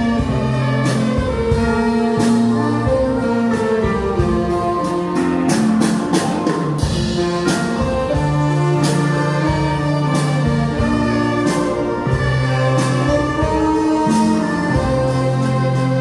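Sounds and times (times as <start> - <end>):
bass line: 0.0 - 16.0
drum beat: 0.0 - 16.0
held melody notes: 0.0 - 16.0.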